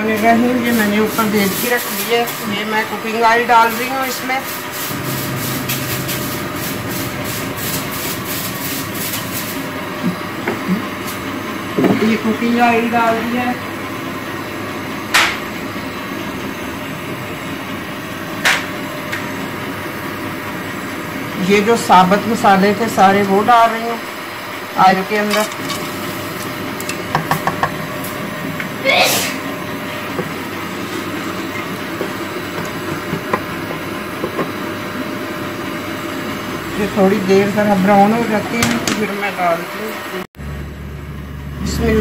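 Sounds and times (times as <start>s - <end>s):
gas burner hissing: 0.0s - 42.0s.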